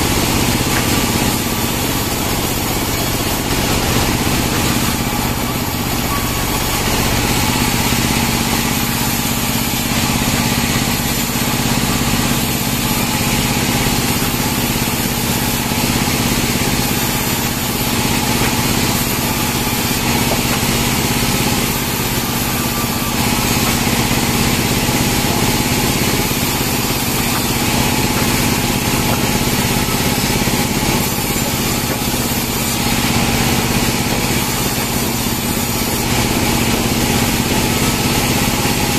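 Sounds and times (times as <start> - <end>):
band sawmill sawing logs: 0.0 - 38.9.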